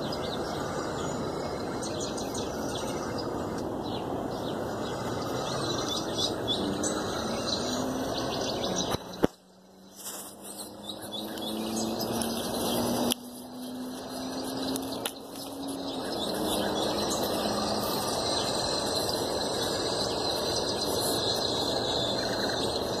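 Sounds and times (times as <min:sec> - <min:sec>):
faint bird chirps: 0:00.0 - 0:23.0
low hum rising in pitch: 0:00.0 - 0:23.0
steady rushing background noise: 0:00.0 - 0:23.0
high insect trill: 0:04.5 - 0:23.0.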